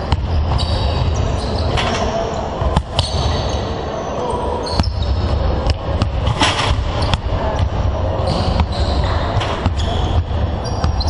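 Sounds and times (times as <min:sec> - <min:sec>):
low hum of hall: 0:00.0 - 0:11.0.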